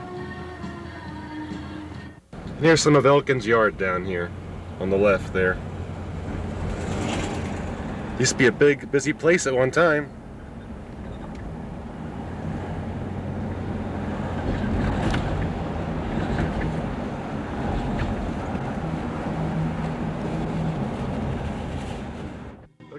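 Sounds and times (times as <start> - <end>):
car engine hum and road noise: 1.7 - 22.8.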